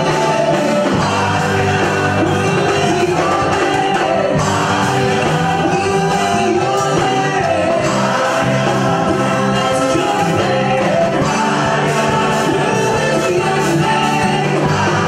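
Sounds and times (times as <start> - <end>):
group singing gospel: 0.0 - 15.0
live band playing: 0.0 - 15.0.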